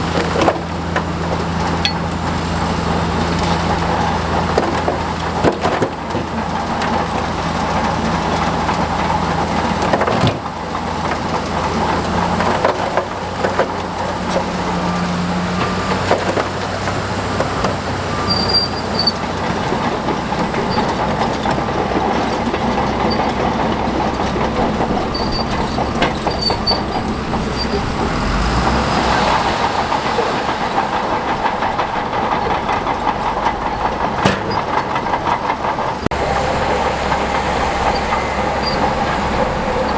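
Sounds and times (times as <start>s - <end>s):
diesel engine running: 0.0s - 39.9s
steel tracks clanking: 0.0s - 39.9s.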